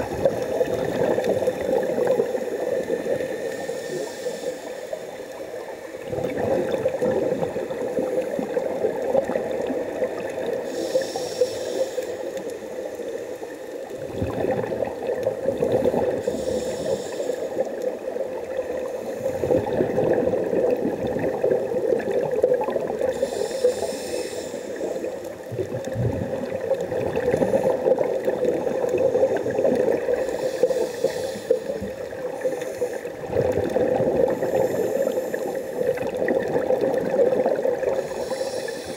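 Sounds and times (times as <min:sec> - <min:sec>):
exhaled bubbles gurgling underwater: 0:00.0 - 0:38.9
underwater water noise: 0:00.0 - 0:38.9.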